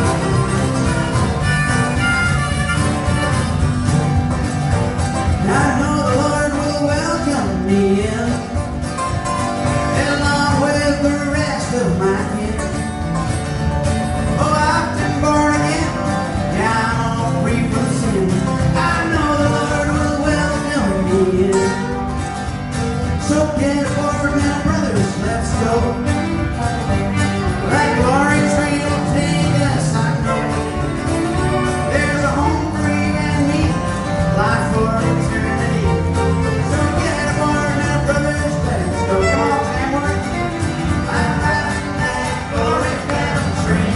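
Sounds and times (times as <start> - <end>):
country-gospel band playing: 0.0 - 43.9
lead melody: 0.0 - 43.9
strummed acoustic guitar: 0.0 - 43.9.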